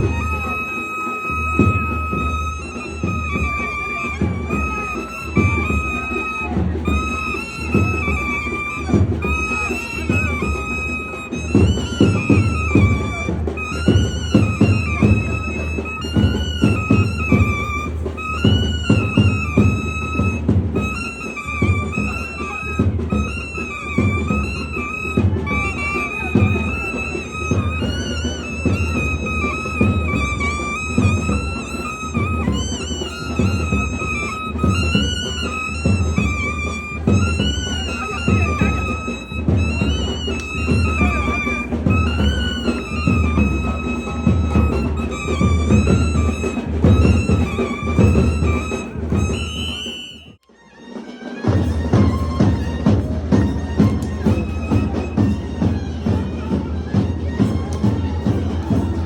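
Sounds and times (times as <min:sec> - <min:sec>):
drum strokes: 0:00.0 - 0:59.0
reed pipe ornamented melody: 0:00.0 - 0:59.0.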